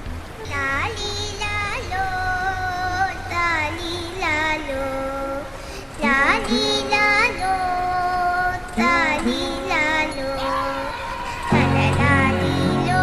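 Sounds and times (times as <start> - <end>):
high singing voice: 0.3 - 13.0.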